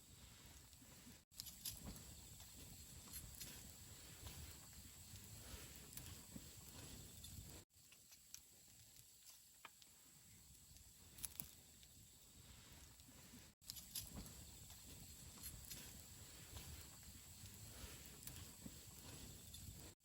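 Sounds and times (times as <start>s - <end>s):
campfire burning: 0.0s - 20.0s.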